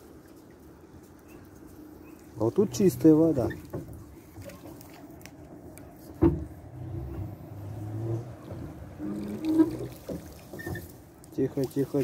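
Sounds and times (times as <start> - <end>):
low steady hum: 0.0 - 11.5
water lapping against boat: 1.6 - 12.0.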